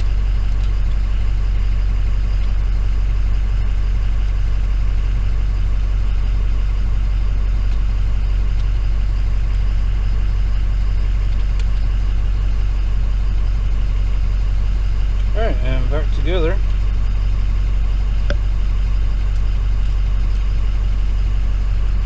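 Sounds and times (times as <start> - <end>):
idling engine drone: 0.0 - 22.0.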